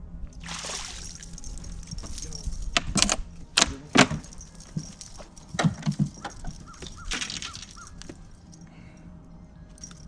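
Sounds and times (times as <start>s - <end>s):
metallic jangling of wires and hooks: 0.3s - 8.8s, 9.8s - 10.0s.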